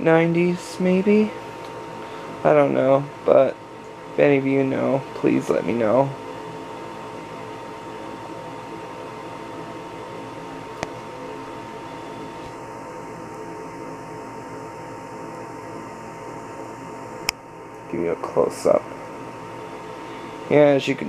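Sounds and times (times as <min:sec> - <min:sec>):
ceiling fan motor humming: 0:00.0 - 0:21.0.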